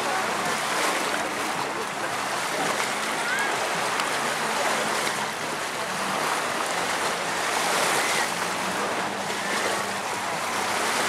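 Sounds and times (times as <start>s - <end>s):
rushing open-air noise: 0.0s - 11.0s.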